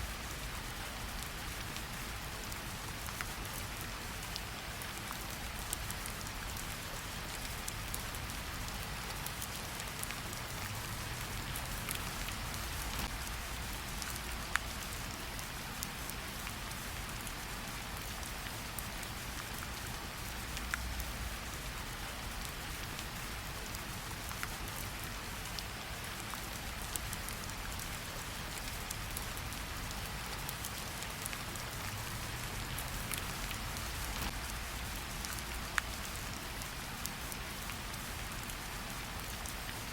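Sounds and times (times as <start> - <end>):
large raindrops striking: 0.0 - 39.9
rain pattering on leaves: 0.0 - 39.9.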